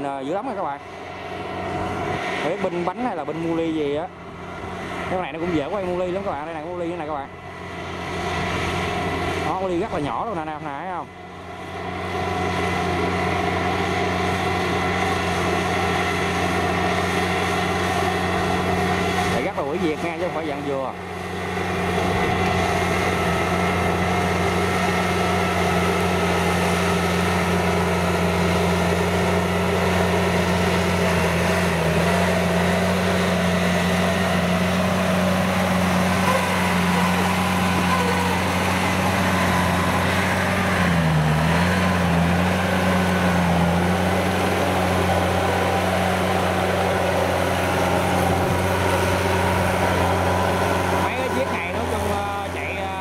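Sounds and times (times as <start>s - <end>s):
tiller engine running under load: 0.0s - 53.0s.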